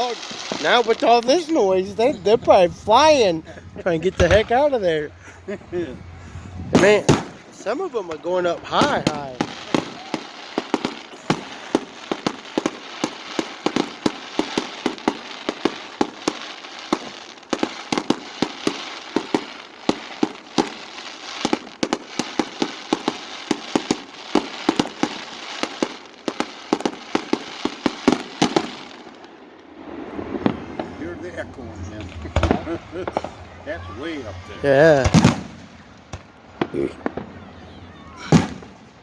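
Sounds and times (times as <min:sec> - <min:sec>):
fireworks bangs and crackle: 0:00.0 - 0:39.0.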